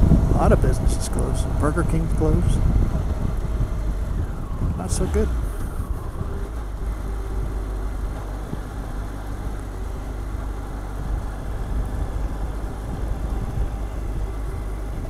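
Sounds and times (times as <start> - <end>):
motorcycle engine and wind rumble: 0.0 - 15.0.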